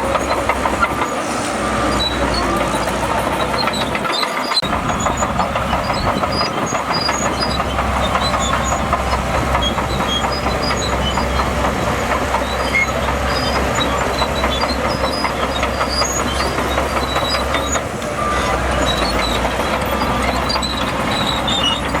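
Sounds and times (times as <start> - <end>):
bulldozer engine running: 0.0 - 22.0
steel tracks clattering: 0.0 - 22.0.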